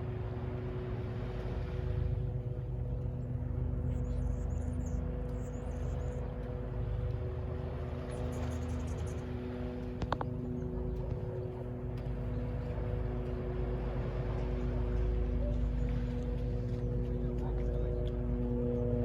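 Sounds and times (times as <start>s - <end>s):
steady tonal hum: 0.0s - 19.0s
distant traffic rumble: 1.2s - 19.0s.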